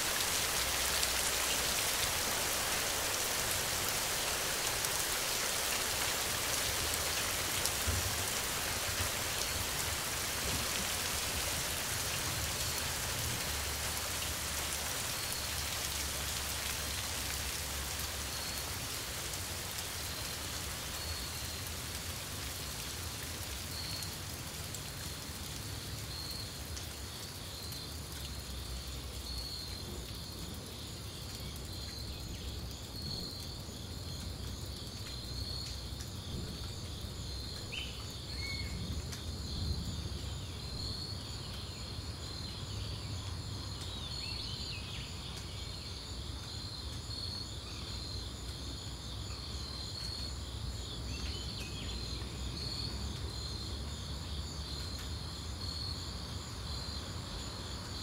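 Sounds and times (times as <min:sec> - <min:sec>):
insects chirping: 0:00.0 - 0:58.0
rain falling: 0:00.0 - 0:58.0.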